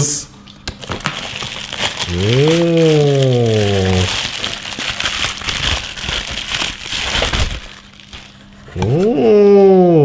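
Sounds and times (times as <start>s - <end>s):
bubble wrap crinkling: 0.8s - 9.3s.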